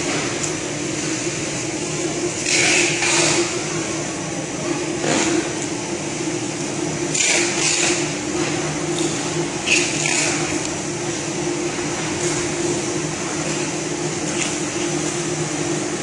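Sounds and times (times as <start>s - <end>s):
laminating machine humming: 0.0s - 16.0s.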